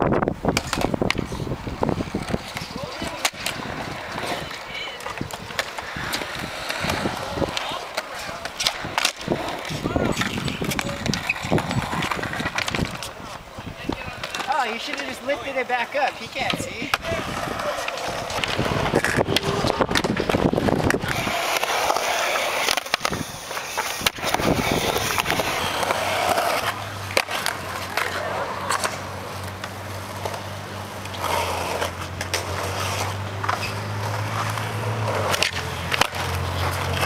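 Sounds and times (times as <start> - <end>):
skateboard wheels rolling on concrete: 0.0 - 37.0
skateboard clacking on ground: 0.4 - 37.0.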